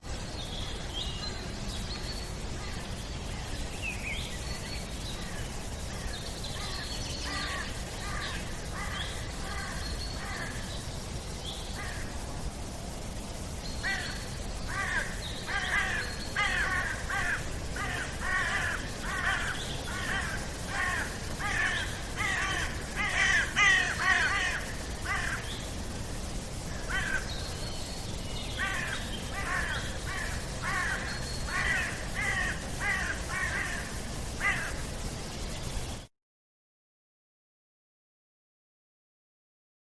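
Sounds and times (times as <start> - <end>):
low background hiss: 0.0 - 36.1
birds calling: 0.5 - 12.2, 13.1 - 36.0.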